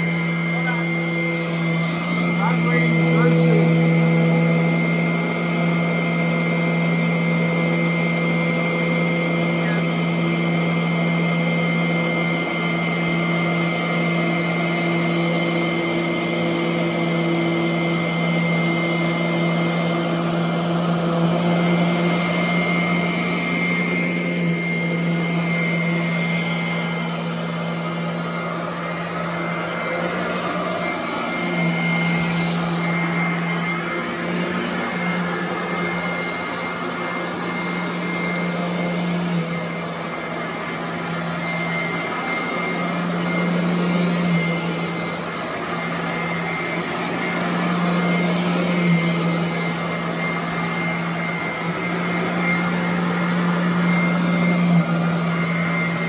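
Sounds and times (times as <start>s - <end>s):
vacuum cleaner running on carpet: 0.0s - 56.0s.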